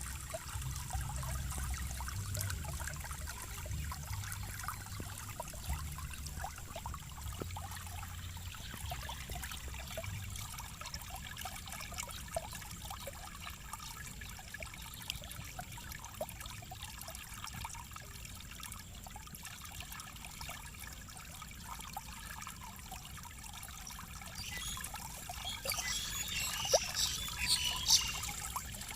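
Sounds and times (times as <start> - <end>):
water drips: 0.0 - 28.9
water trickling and splashing: 0.0 - 28.9.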